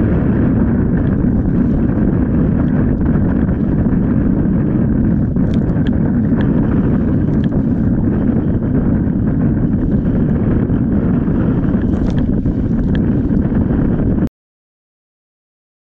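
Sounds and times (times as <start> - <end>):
water splashing against hull: 0.0 - 14.2
wind buffeting microphone: 0.0 - 14.3.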